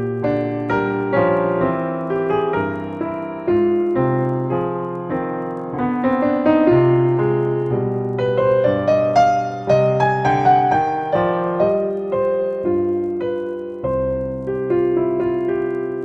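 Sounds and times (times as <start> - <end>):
slow gentle solo piano: 0.0 - 16.0.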